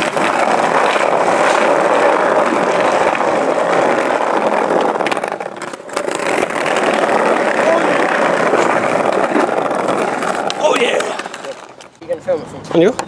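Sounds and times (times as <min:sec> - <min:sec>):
skateboard wheels rolling on bricks: 0:00.0 - 0:12.0.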